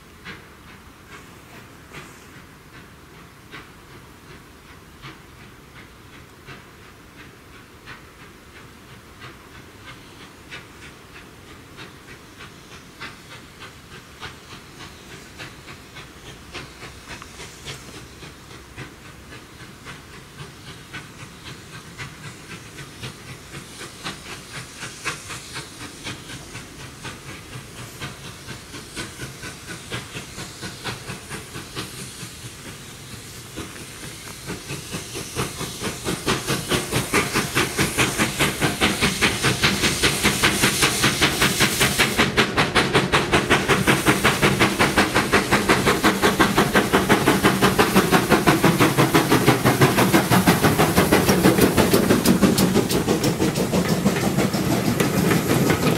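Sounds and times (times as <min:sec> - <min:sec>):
steam hissing: 0:00.0 - 0:55.9
steam locomotive exhaust beats: 0:00.0 - 0:55.9.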